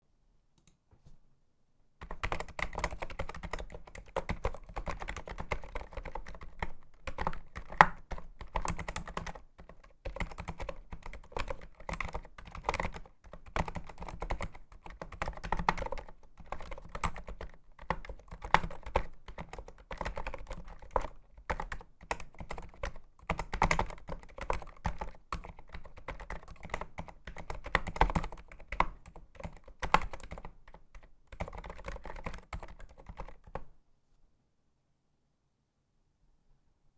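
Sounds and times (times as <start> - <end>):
keyboard typing: 2.0 - 33.7.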